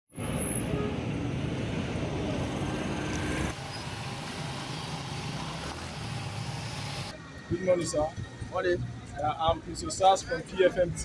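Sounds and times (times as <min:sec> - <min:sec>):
road traffic passing: 0:00.1 - 0:11.0.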